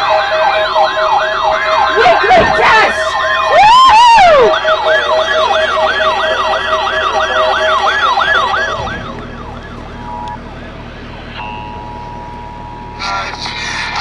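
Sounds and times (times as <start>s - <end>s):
emergency vehicle siren: 0.0s - 14.0s.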